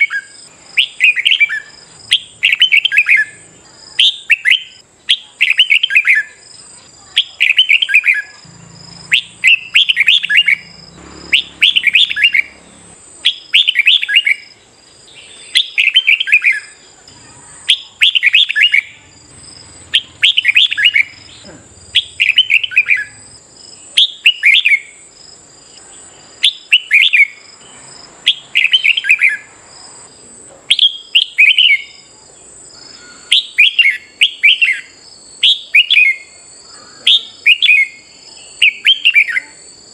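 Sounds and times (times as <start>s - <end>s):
bird singing chattering phrases: 0.0s - 25.1s, 25.7s - 30.0s, 30.6s - 39.7s.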